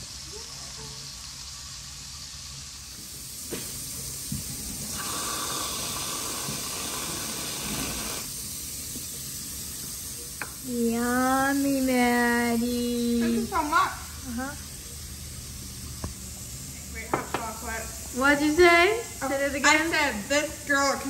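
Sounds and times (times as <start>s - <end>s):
hot water hissing: 0.0s - 21.0s.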